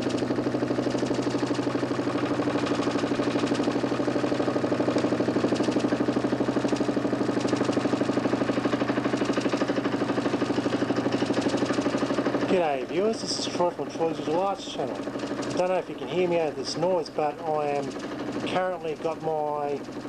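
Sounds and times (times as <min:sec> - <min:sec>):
motor humming with fast pulsing: 0:00.0 - 0:20.0.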